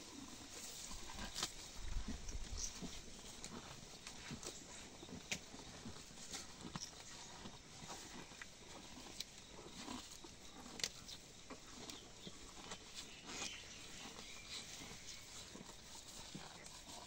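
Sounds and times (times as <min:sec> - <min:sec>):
cow eating grass: 0:00.0 - 0:17.0.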